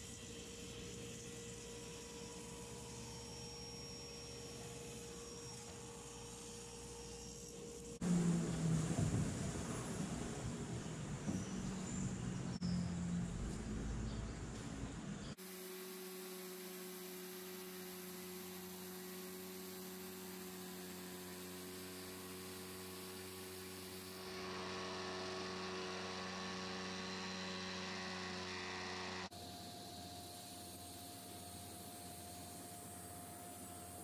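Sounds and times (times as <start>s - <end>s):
steady electric hum: 0.0s - 12.6s, 14.1s - 34.0s.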